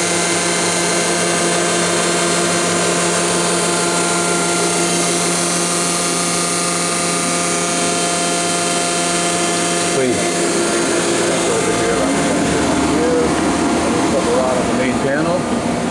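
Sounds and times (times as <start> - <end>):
machine hum and whir: 0.0 - 15.9.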